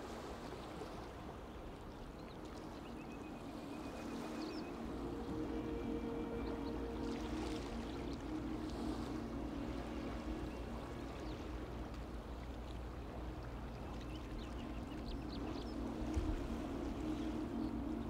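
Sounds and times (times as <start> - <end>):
sea water washing against shore: 0.0 - 18.0.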